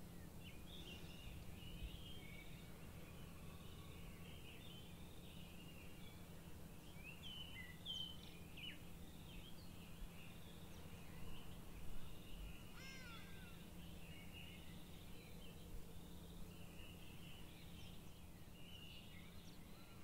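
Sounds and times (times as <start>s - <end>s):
songbirds chirping and whistling: 0.0s - 20.0s.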